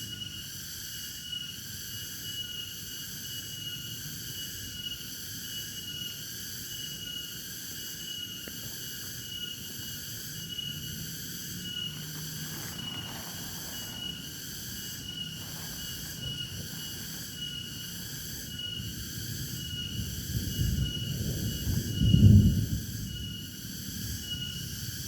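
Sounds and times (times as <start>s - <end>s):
crickets trilling: 0.0s - 25.0s
high pulsing insect note: 3.6s - 25.0s.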